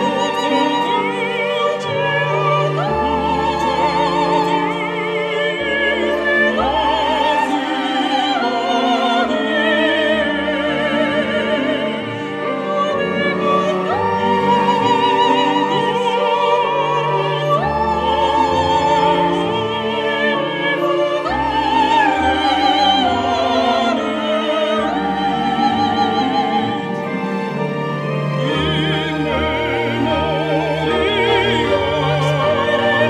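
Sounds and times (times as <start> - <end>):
operatic voice singing: 0.0 - 33.0
orchestral film score: 0.0 - 33.0.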